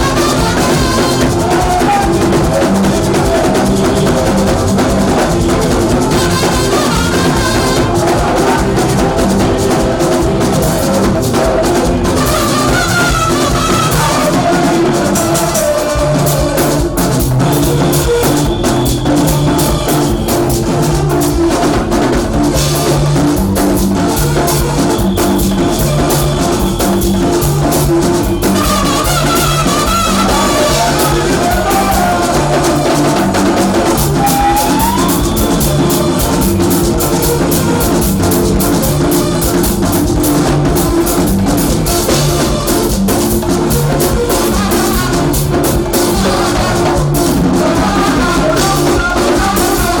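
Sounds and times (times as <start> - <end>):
drum kit beat: 0.0 - 50.0
repeating bass line: 0.0 - 50.0.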